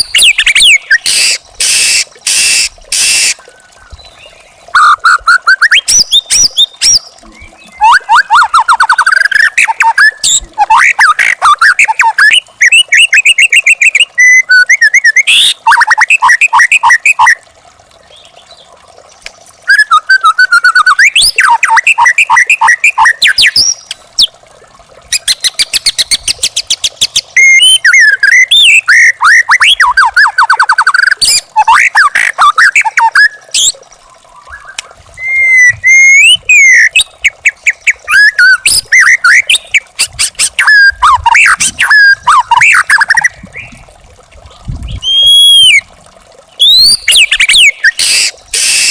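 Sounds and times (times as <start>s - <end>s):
songbird whistling song: 0.0s - 17.4s, 19.6s - 24.3s, 25.1s - 33.8s, 34.4s - 43.8s, 44.8s - 45.8s, 46.6s - 48.9s.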